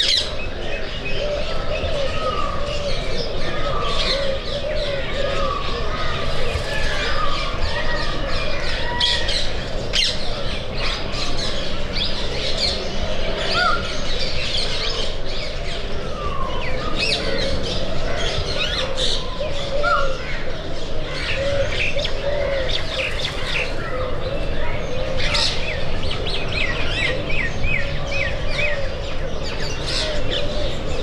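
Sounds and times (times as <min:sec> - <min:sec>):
birds chirping and calling: 0:00.0 - 0:31.0.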